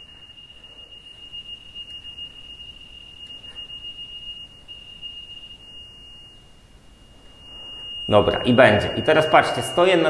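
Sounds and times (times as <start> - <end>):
rapid high-pitched beeping: 0.0 - 10.0.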